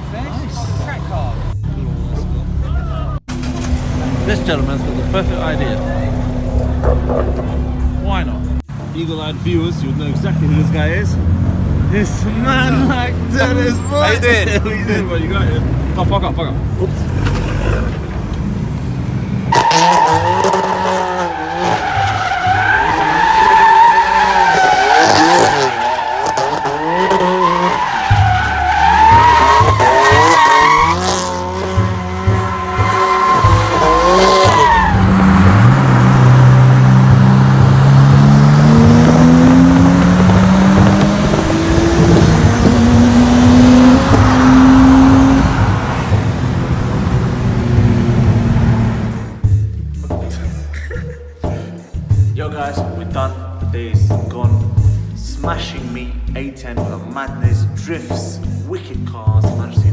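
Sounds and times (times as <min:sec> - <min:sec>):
car tyres squealing: 0:00.0 - 0:49.4
car engine revving: 0:00.0 - 0:52.2.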